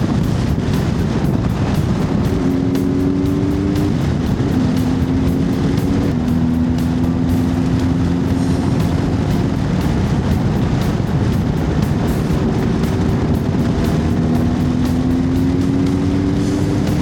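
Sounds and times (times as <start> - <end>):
motorcycle engine droning: 0.0 - 17.0
wind rumble on microphone: 0.0 - 17.0.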